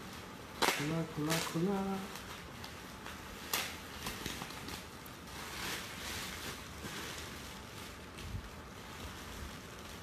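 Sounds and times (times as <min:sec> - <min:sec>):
foil gift wrap crinkling: 0:00.0 - 0:10.0.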